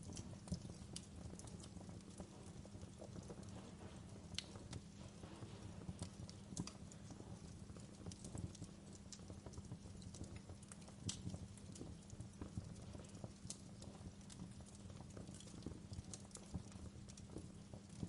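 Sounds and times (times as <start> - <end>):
low steady hum: 0.0 - 18.0
wood fire crackling and popping: 0.0 - 18.0.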